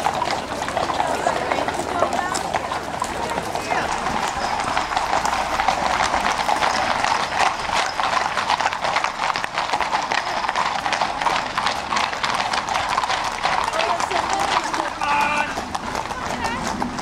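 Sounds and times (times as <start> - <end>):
horse hooves on tarmac: 0.0 - 17.0.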